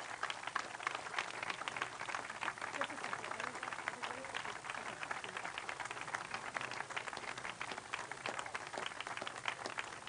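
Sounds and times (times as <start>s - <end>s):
crowd clapping: 0.0s - 10.0s
faint voices murmuring: 0.6s - 10.0s.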